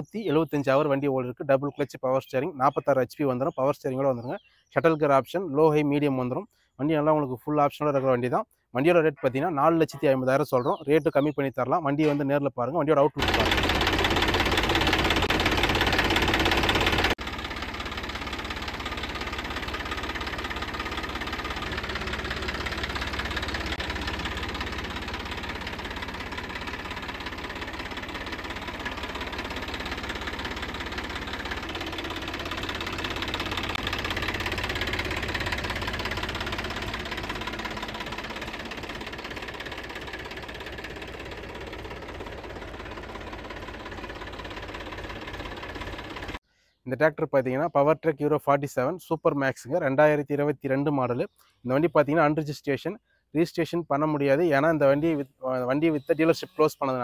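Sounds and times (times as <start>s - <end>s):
tractor diesel engine idling: 0.0s - 46.4s.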